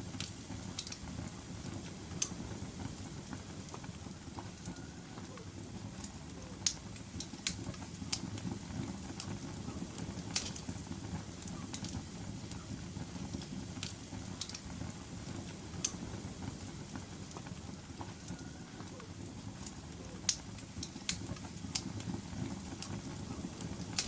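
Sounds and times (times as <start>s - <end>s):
fire crackling and popping: 0.0s - 24.0s
fire roaring: 0.0s - 24.0s.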